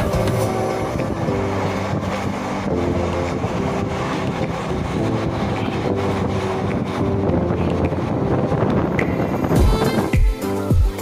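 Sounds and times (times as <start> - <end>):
train rumbling at speed: 0.0 - 10.9
background music: 0.0 - 11.0
wind noise on microphone: 0.0 - 11.0.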